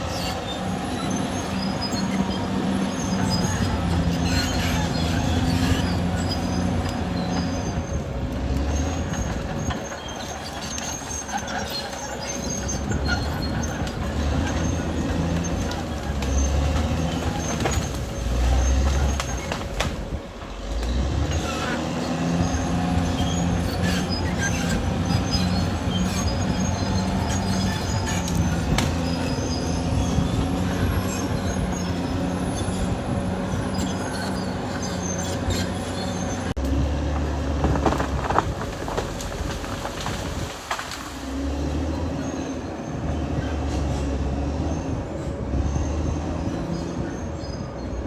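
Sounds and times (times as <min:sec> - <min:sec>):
bulldozer diesel engine running: 0:00.0 - 0:48.0
steel tracks clanking and squealing: 0:00.0 - 0:48.0.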